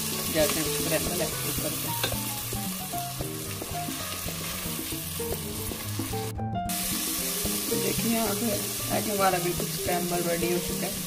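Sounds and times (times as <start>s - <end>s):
egg sizzling in hot oil: 0.0s - 11.0s.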